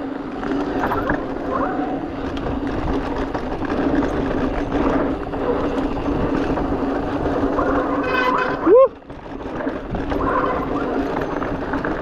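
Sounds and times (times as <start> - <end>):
tyres on dirt trail: 0.0 - 12.0.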